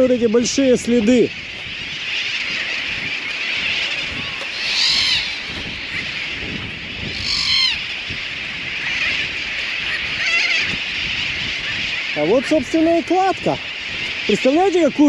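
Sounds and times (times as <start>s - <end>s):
high-pitched background noise: 0.0s - 15.0s
seabirds calling: 0.0s - 15.0s.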